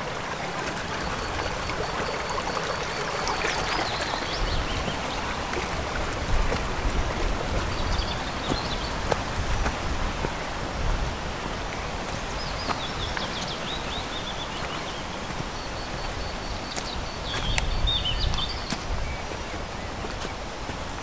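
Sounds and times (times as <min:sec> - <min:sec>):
small birds singing: 0:00.8 - 0:10.5, 0:11.5 - 0:21.0.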